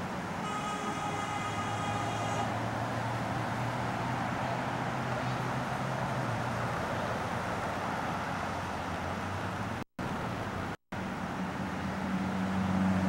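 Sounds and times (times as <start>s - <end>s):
highway traffic: 0.0s - 13.0s.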